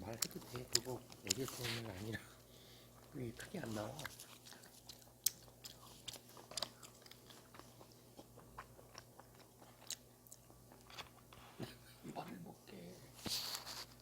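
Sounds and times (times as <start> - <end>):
person chewing food: 0.0 - 11.8.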